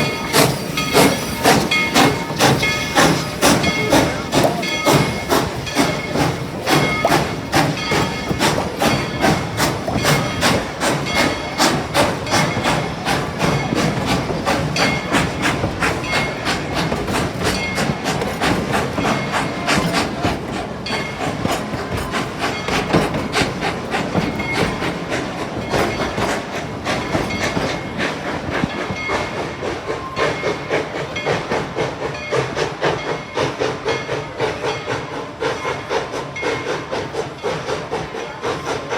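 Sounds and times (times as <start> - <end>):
steam hiss: 0.0 - 38.9
steam locomotive chuffing: 0.0 - 38.9.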